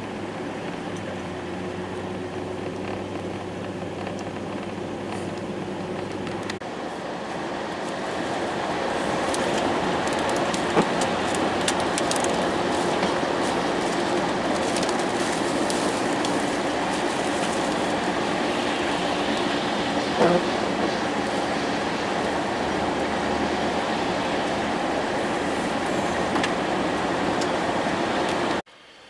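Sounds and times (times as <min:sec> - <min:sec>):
tyre noise on wet road: 0:00.0 - 0:28.7.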